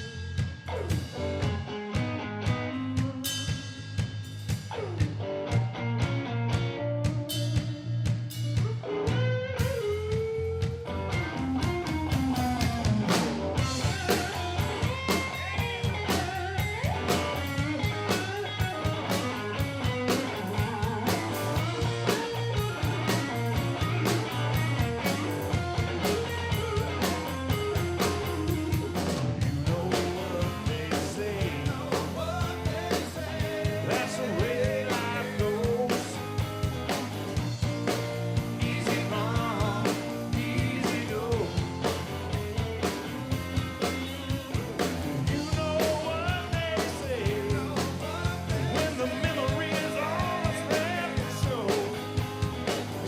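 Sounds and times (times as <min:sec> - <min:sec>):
bass: 0:00.0 - 0:53.0
drum kit beat: 0:00.0 - 0:53.0
electric guitar lines: 0:00.0 - 0:53.0.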